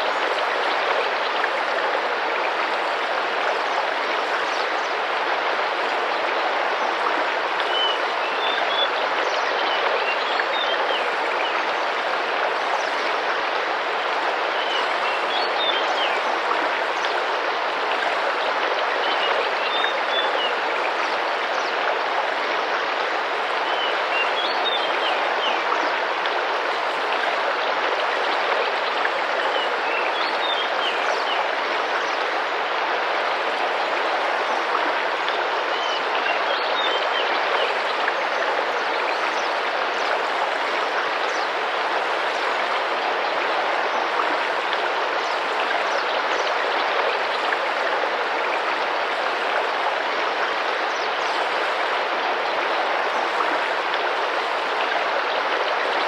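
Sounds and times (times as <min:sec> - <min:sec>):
river running and splashing: 0:00.0 - 0:56.0.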